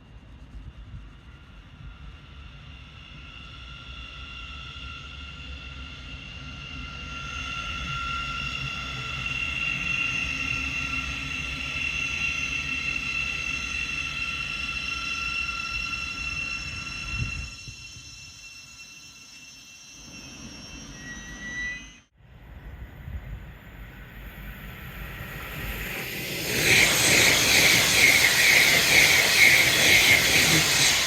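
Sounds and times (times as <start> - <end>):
electric train passing: 1.3 - 31.0.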